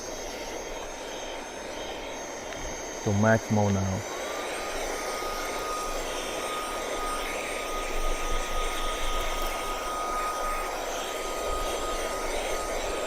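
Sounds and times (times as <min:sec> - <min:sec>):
handheld vacuum cleaner running: 0:00.0 - 0:13.0.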